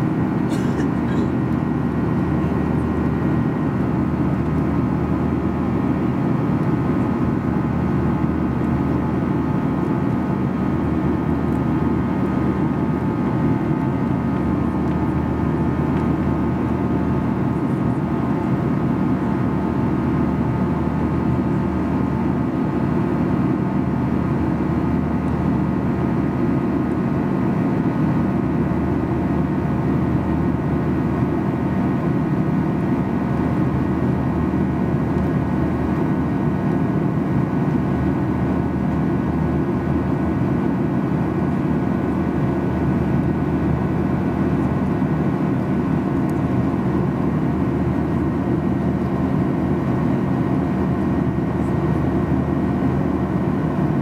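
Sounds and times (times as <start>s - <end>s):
airflow over fuselage: 0.0s - 54.0s
jet engine drone: 0.0s - 54.0s.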